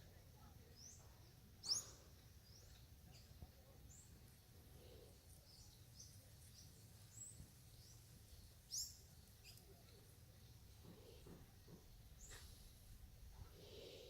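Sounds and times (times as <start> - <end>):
faint bird chirps: 0.0 - 14.0
low background noise: 0.0 - 14.0.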